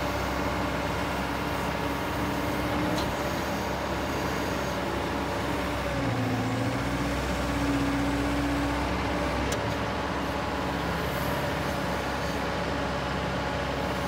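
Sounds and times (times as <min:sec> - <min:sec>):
excavator diesel engine running: 0:00.0 - 0:14.0
hydraulics working: 0:00.0 - 0:14.0.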